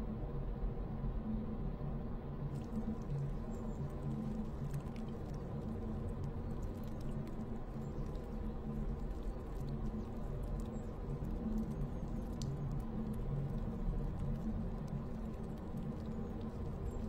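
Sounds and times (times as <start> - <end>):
faint clicks and ticks: 2.6 - 17.0.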